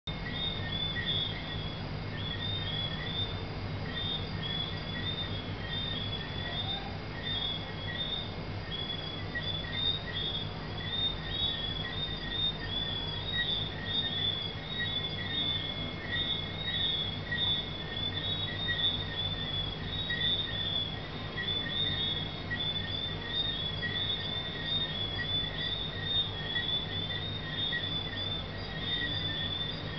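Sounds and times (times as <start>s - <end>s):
steady low hum: 0.1s - 29.9s
tree frogs chirping: 0.1s - 29.9s.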